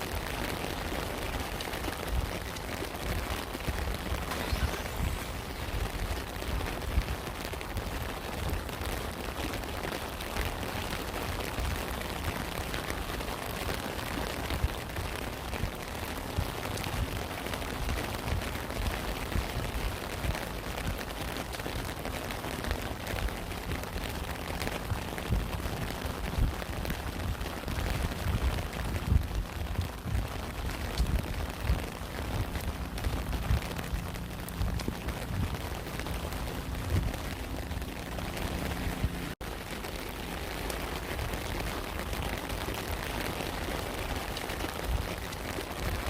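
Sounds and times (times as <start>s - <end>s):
raindrops ticking: 0.0s - 46.0s
steady rain: 0.0s - 46.0s.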